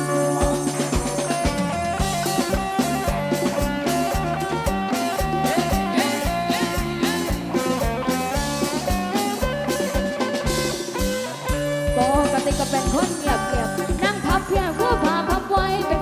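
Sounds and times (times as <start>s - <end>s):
drum kit steady beat: 0.0s - 16.0s
electric guitar melody: 0.0s - 16.0s.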